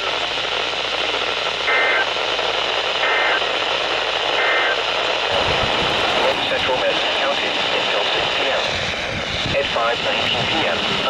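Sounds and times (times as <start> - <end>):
static hiss: 0.0 - 11.0.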